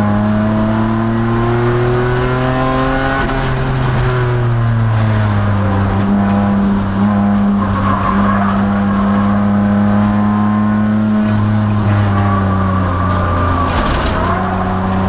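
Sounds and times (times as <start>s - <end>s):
race car engine droning: 0.0s - 15.0s.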